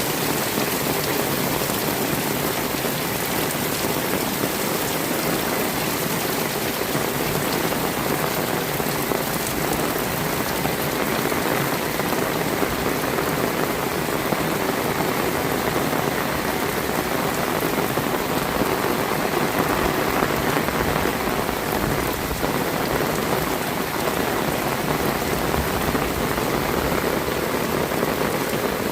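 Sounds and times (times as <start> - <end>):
heavy rain: 0.0 - 28.9.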